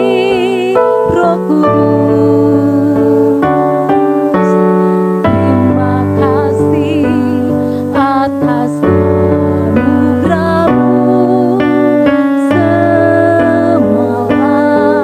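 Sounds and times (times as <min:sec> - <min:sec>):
keyboard sustained chords: 0:00.0 - 0:15.0.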